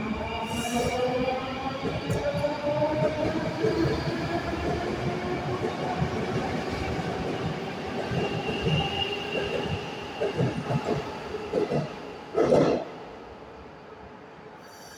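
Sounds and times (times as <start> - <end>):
metro train rumble: 0.0 - 14.9.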